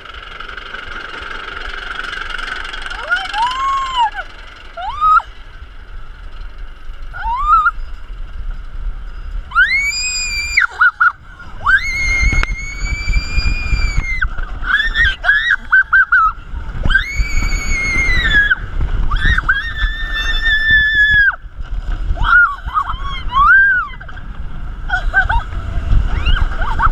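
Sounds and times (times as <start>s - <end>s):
riders screaming: 2.2s - 5.8s, 7.0s - 8.2s, 9.5s - 26.9s
wind buffeting microphone: 2.8s - 26.9s.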